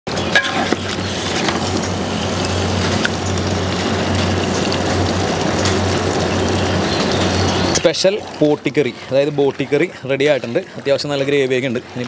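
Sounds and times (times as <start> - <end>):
stove burner roaring: 0.1 - 12.0.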